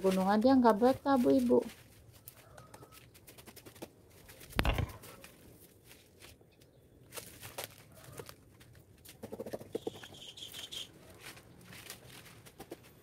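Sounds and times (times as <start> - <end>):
palm fronds rustling and crackling: 0.0 - 12.9.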